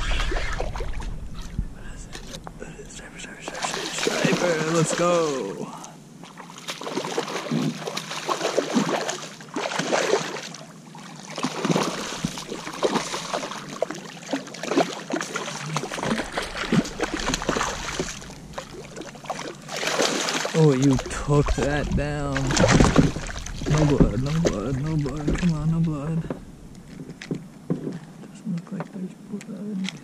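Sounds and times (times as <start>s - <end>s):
water splashing against kayak: 3.4s - 27.9s.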